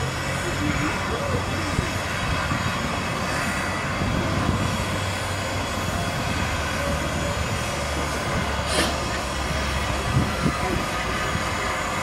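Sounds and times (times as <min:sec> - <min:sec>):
steam locomotive rumble and hiss: 0:00.0 - 0:12.0.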